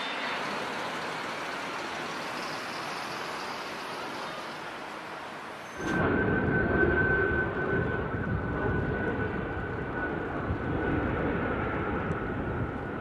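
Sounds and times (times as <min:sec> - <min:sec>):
jet engines rumbling with whine: 0:00.0 - 0:13.0.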